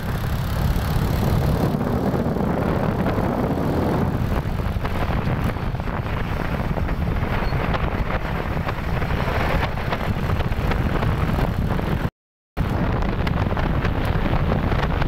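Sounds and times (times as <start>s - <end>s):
motorcycle ride noise: 0.0s - 15.0s
wind rushing over microphone: 0.0s - 15.0s.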